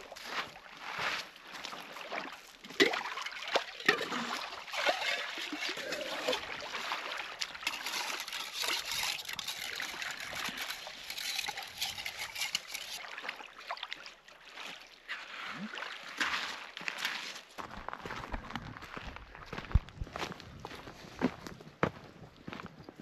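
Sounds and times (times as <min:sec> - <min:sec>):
water trickling and splashing: 0:00.0 - 0:18.8.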